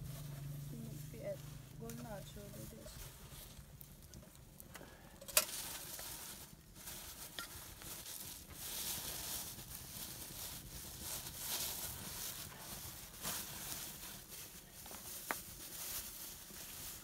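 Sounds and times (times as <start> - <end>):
plastic bag crinkling: 0.7 - 17.0.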